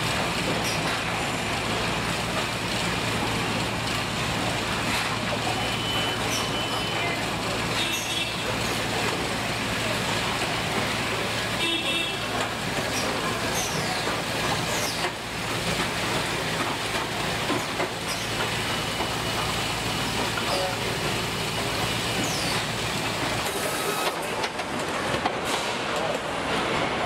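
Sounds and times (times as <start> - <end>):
machinery and air noise: 0.0 - 27.0.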